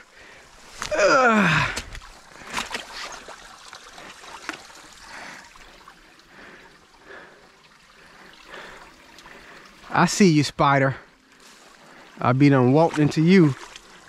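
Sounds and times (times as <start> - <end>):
creek water trickling: 0.0 - 14.0.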